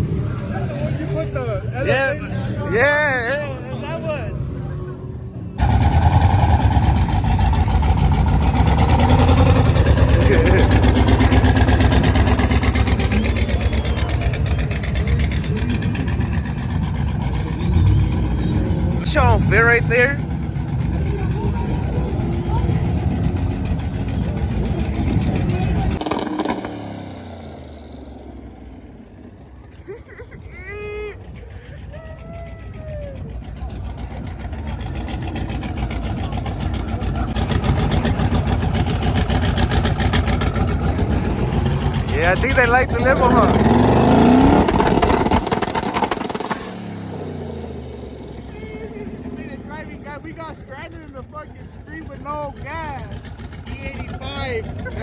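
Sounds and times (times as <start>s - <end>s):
engine exhaust rumble: 0.0s - 55.0s.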